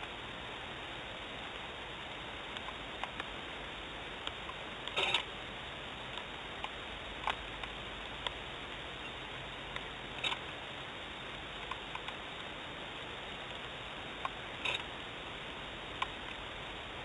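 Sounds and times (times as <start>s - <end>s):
rain dripping on camera housing: 0.0s - 17.0s.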